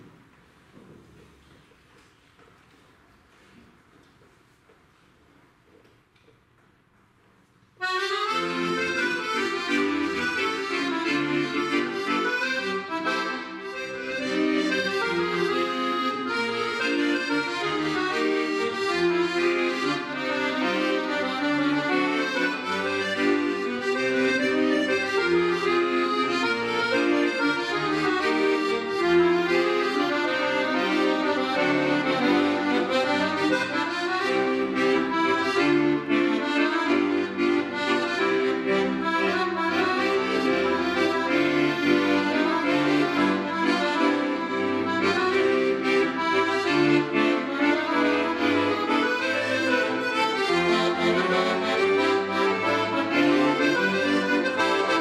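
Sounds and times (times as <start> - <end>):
accordion playing: 7.8 - 55.0.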